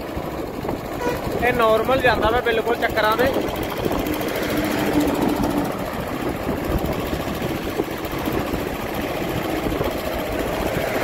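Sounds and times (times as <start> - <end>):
diesel tractor engine running: 0.0 - 11.0
motorcycle engine running: 0.0 - 11.0.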